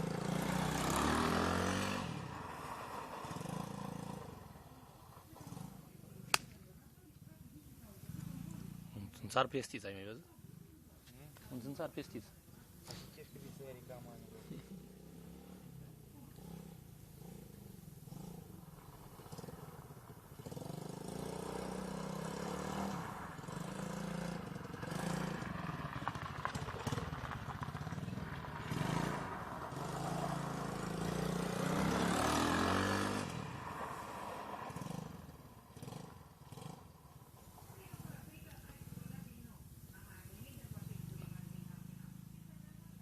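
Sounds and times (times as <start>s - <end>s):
small atv engine running: 0.0s - 6.6s, 7.7s - 9.4s, 11.5s - 43.0s.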